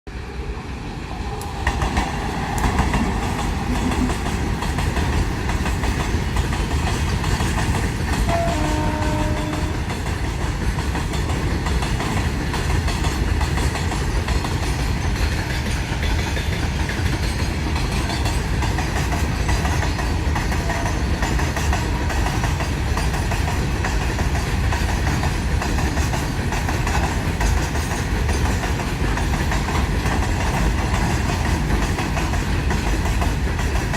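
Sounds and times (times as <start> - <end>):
goods train rumbling on rails: 0.1 - 33.9.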